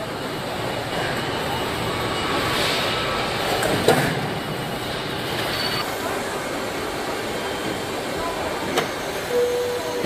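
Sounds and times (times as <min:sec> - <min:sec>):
factory machinery noise: 0:00.0 - 0:10.0.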